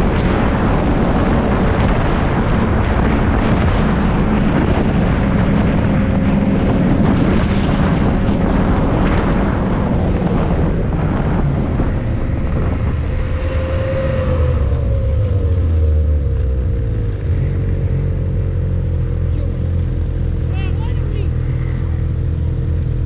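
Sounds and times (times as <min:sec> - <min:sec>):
snowmobile engine running: 0:00.0 - 0:23.0
wind rushing over microphone: 0:00.0 - 0:23.0.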